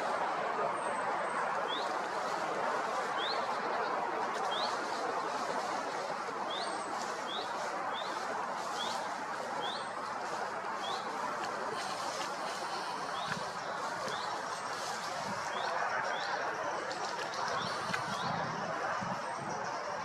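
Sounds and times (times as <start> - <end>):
birds chirping: 0.0 - 20.0
steady rushing background: 0.0 - 20.0.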